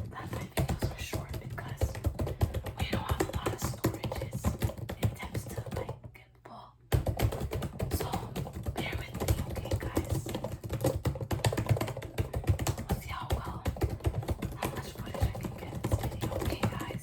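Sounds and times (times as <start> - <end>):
rapid small clicks and taps: 0.0 - 6.2, 6.9 - 17.0.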